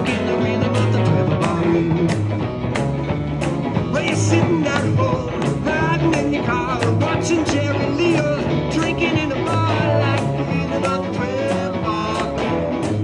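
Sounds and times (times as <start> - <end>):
live blues band playing: 0.0 - 13.0
wavering lead guitar line: 0.0 - 13.0.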